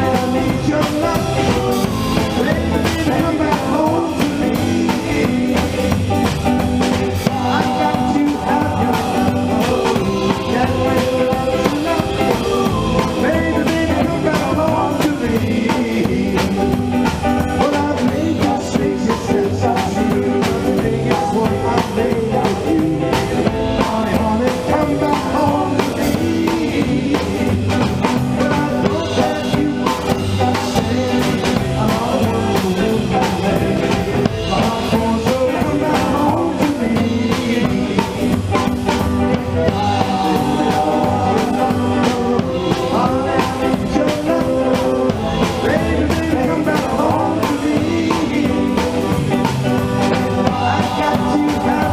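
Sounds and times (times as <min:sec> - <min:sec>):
drum kit: 0:00.0 - 0:51.9
electric guitar: 0:00.0 - 0:51.9
rock band playing: 0:00.0 - 0:51.9
voices singing: 0:00.0 - 0:51.9.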